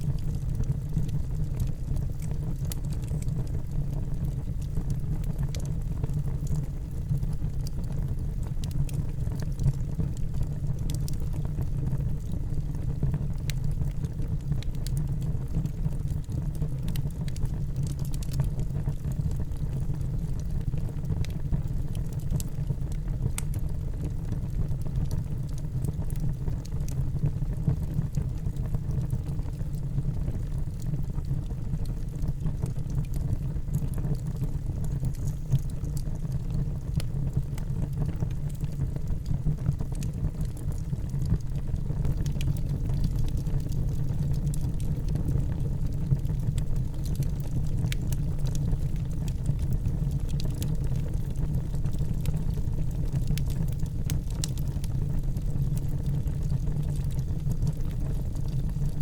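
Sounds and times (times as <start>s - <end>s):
flames rumbling: 0.0s - 59.0s
logs crackling and popping: 0.0s - 59.0s.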